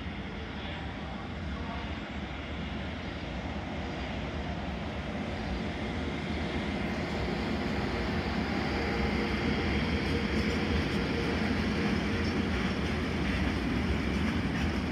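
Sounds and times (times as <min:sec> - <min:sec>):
freight train passing: 0:00.0 - 0:14.9.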